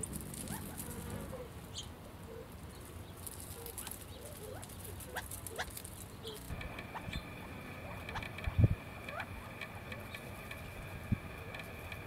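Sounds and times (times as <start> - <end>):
low steady background hum: 0.0 - 12.0
small birds chirping: 0.3 - 12.0.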